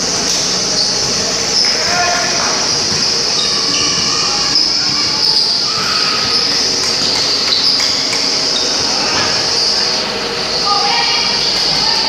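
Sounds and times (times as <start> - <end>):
gym ambience hiss: 0.0 - 12.0
basketball shoes squeaking: 0.1 - 12.0.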